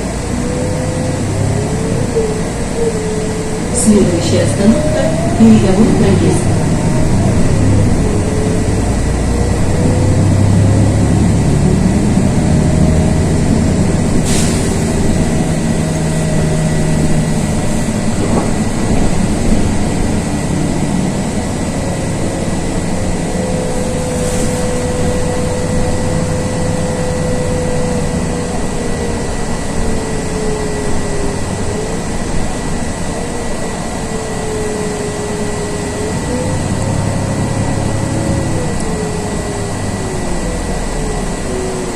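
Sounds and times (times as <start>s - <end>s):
bus diesel engine rumble: 0.0s - 41.9s
road noise: 0.0s - 41.9s.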